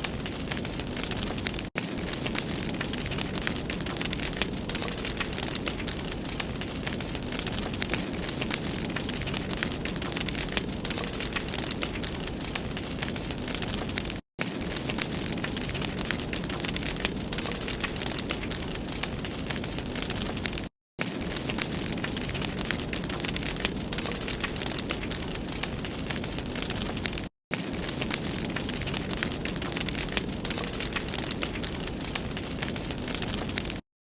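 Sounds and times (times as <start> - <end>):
fire crackling and popping: 0.0 - 33.8
rush of flames: 0.0 - 33.8.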